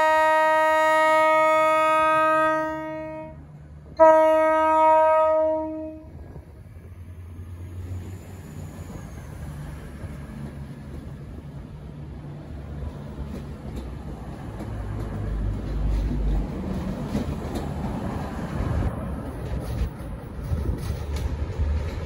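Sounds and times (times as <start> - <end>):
diesel train running past: 0.0 - 22.0.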